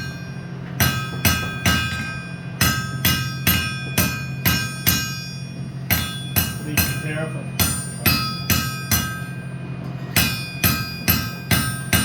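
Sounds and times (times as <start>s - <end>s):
hammer striking steel on anvil: 0.0s - 12.0s.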